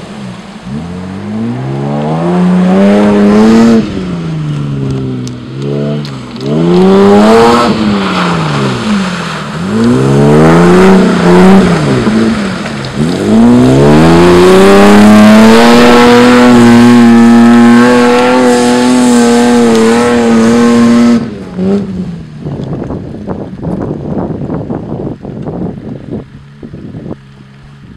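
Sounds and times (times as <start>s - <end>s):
car engine revving: 0.0s - 22.6s.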